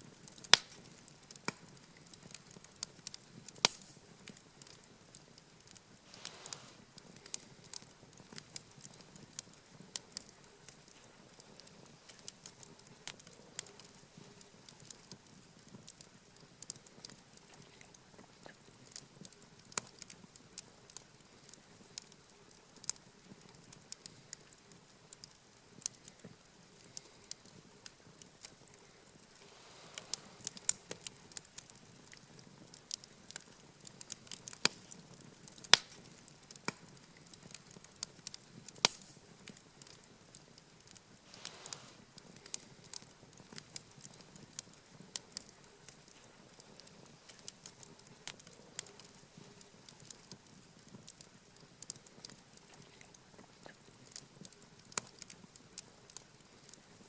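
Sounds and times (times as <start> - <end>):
campfire crackling: 0.0 - 57.0
sharp pops and snaps: 0.2 - 57.0.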